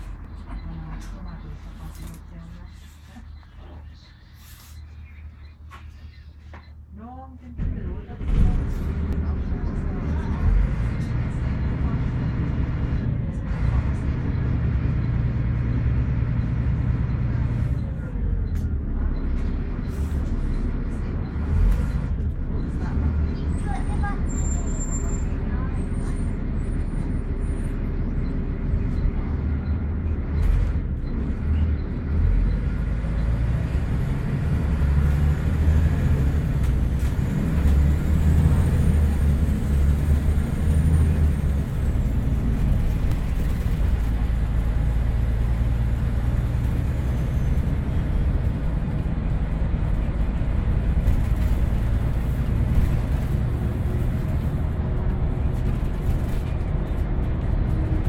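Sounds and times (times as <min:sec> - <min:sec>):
bus engine rumble: 0:00.0 - 0:58.0
road noise: 0:00.0 - 0:58.0.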